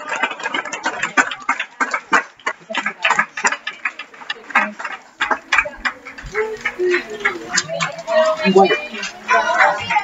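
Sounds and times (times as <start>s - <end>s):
crowd clapping unevenly: 0.0s - 10.0s.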